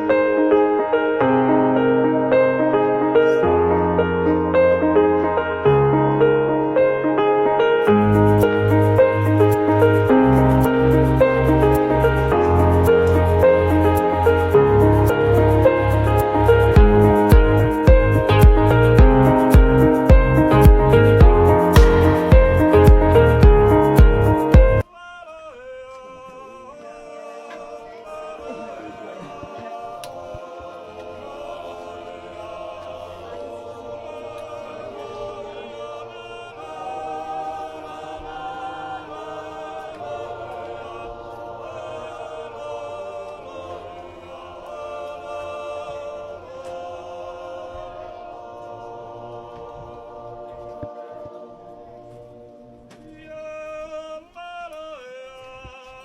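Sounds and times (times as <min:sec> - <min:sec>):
choir singing slow harmony: 0:00.0 - 0:56.0.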